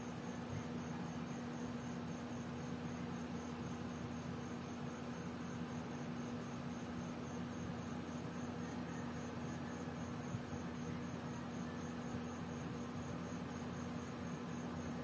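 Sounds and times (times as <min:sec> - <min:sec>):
insect chirping: 0:00.0 - 0:15.0
steady low hum and hiss: 0:00.0 - 0:15.0.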